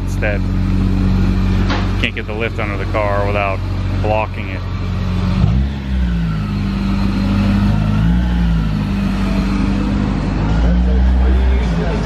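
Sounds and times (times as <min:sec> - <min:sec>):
car engine at low revs: 0:00.0 - 0:12.0.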